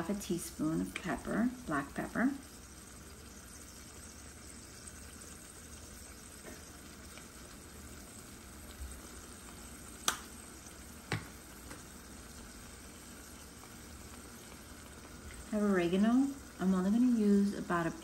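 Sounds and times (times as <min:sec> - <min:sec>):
sauce simmering in a pot: 0:00.0 - 0:18.0.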